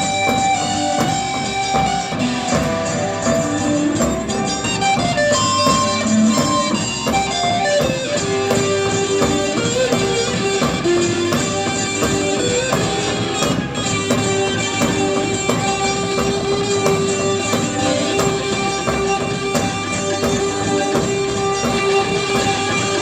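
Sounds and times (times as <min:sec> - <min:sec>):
drums keeping steady beat: 0:00.0 - 0:23.0.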